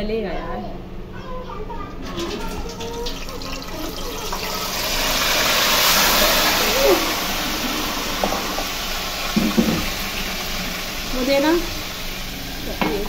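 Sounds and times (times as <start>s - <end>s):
meat sizzling in hot oil: 2.1s - 13.0s.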